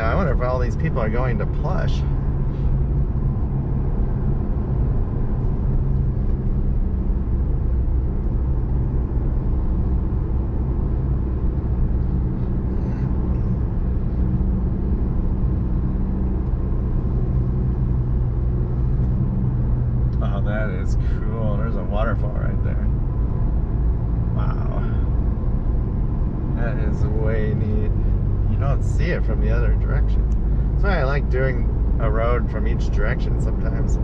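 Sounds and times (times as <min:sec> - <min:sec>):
car engine drone: 0:00.0 - 0:34.0.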